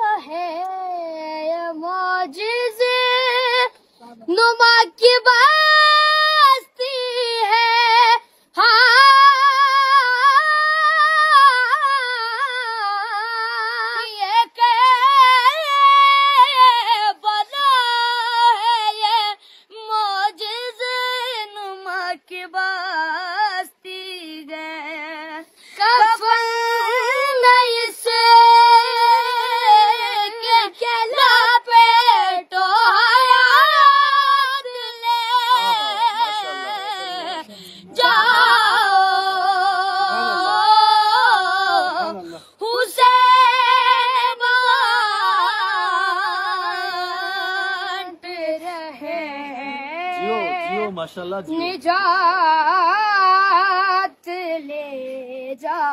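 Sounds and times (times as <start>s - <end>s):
boy singing unaccompanied: 0.0s - 55.9s.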